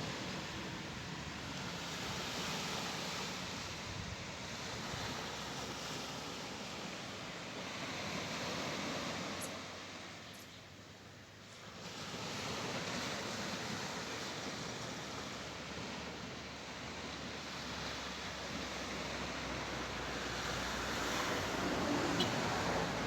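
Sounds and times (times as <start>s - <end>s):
surf washing on beach: 0.0s - 23.0s.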